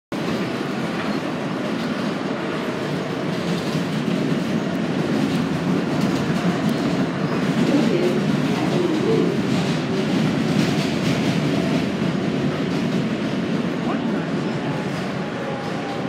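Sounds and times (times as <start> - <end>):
train wheels on rails: 0.1 - 16.0.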